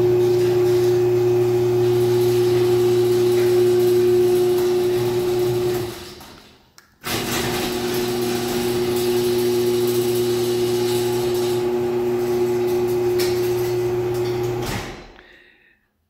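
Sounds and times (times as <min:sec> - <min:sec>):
garage door opener motor humming: 0:00.0 - 0:06.3, 0:07.0 - 0:15.1.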